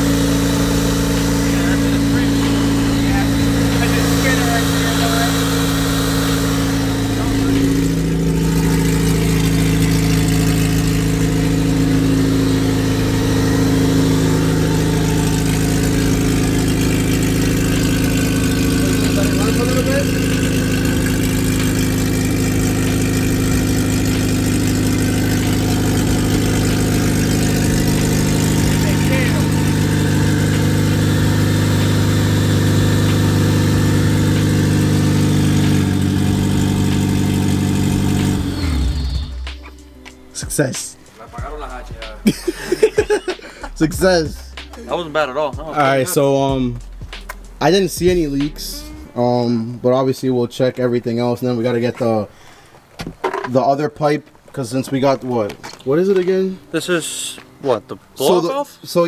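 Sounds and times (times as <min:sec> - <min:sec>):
car engine idling: 0:00.0 - 0:49.8.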